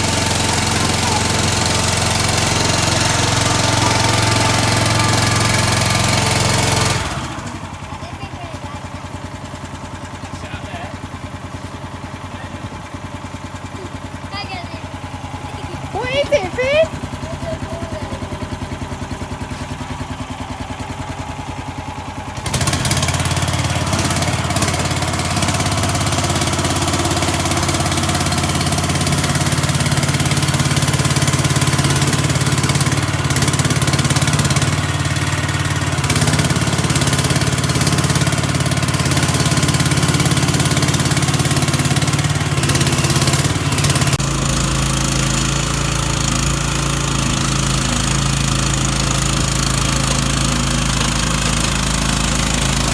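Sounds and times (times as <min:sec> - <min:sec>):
diesel engine revving under load: 0:00.0 - 0:52.9.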